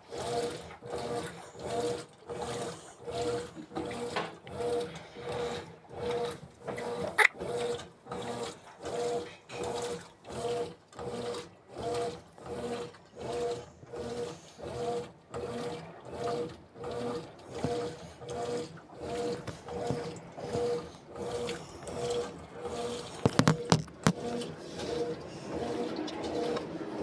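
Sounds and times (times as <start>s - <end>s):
washing machine agitating: 0.0s - 27.0s.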